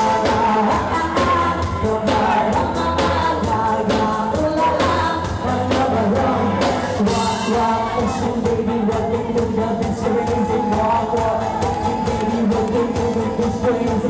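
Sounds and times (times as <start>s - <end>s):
drums keeping steady beat: 0.0s - 14.0s
live rock band playing: 0.0s - 14.0s
woman singing: 0.0s - 14.0s.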